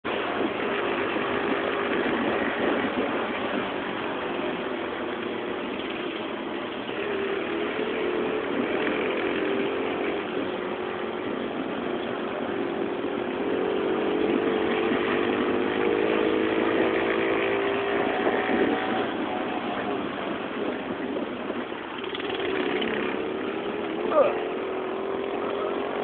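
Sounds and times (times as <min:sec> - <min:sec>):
mini bike engine running: 0:00.1 - 0:26.0.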